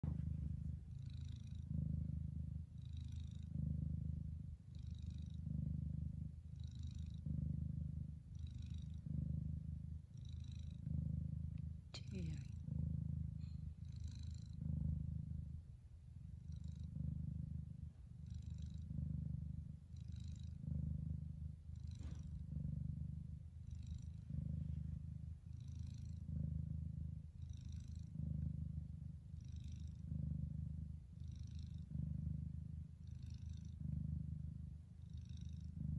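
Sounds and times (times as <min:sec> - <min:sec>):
cat purring: 0:00.0 - 0:35.9.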